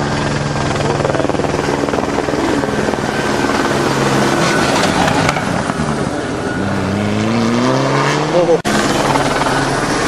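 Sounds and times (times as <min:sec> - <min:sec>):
loud pulsing engine: 0:00.0 - 0:10.0.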